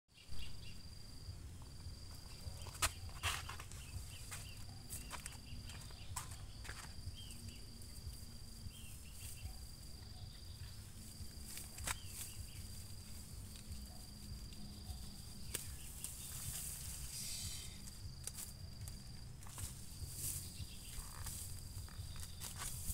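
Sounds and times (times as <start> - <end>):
insect trilling: 0.2 - 22.9
rustle of leafy stems: 1.8 - 22.9.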